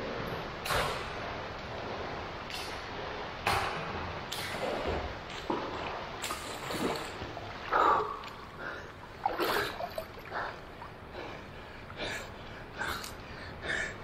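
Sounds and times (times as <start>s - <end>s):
water splashing and lapping: 0.6s - 13.8s.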